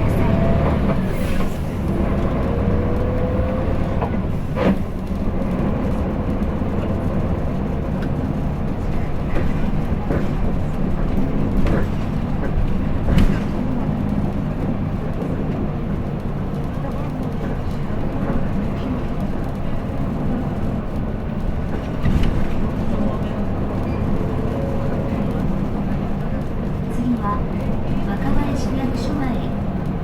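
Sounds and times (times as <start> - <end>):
bus engine drone: 0.0 - 30.0.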